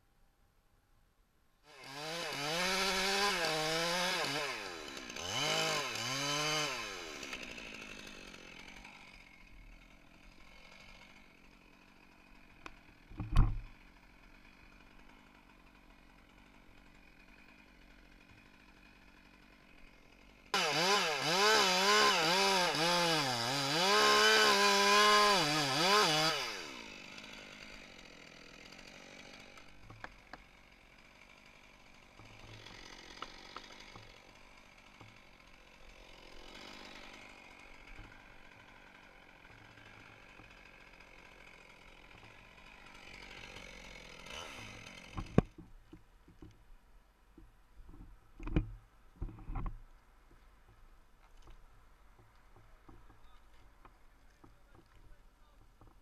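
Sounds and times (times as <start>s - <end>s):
chainsaw cutting wood: 1.6s - 46.7s, 47.3s - 56.0s.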